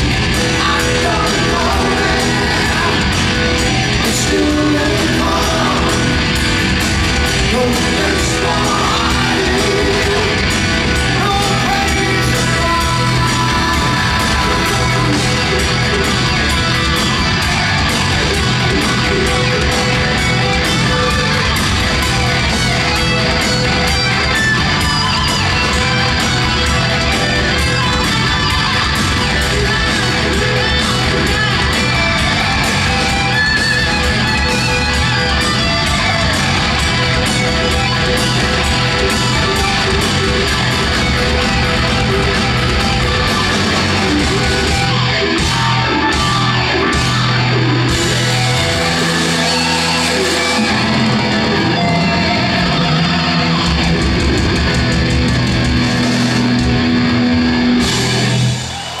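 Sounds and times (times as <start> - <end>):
live hard rock band: 0.0 - 59.0.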